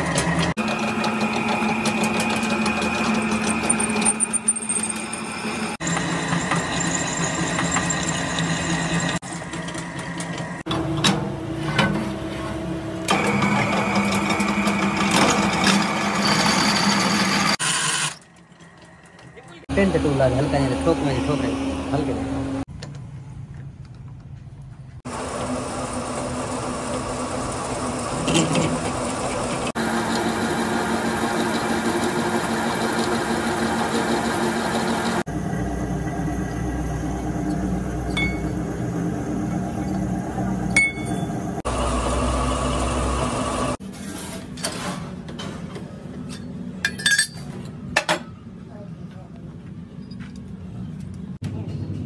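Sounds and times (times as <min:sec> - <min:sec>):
workshop machinery running: 0:00.0 - 0:22.7, 0:25.1 - 0:48.5.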